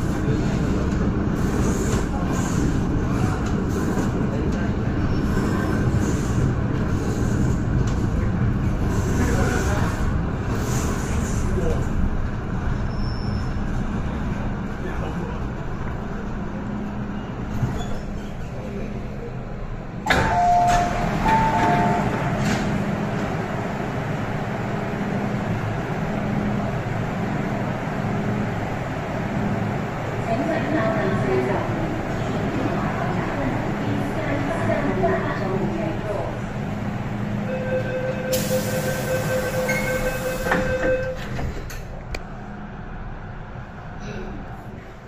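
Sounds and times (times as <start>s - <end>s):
train equipment hum and rumble: 0.0s - 45.0s.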